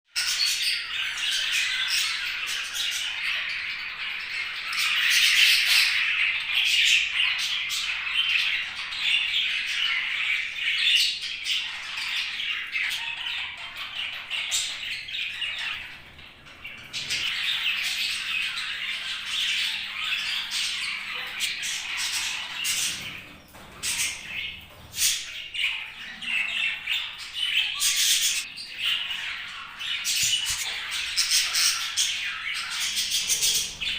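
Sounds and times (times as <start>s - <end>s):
budgerigars chattering and warbling: 0.2s - 33.9s.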